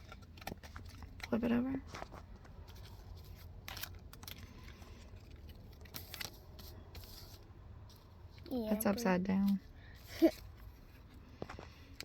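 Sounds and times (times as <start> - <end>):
trading cards rustling: 0.0 - 12.0.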